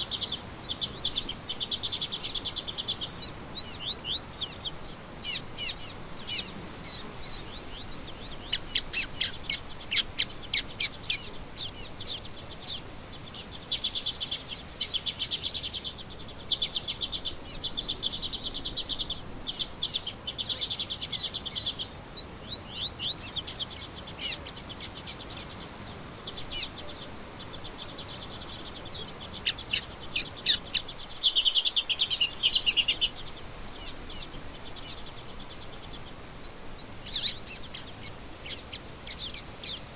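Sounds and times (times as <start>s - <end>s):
faint steady background hiss: 0.0s - 39.9s
songbirds chirping and trilling: 0.0s - 39.9s.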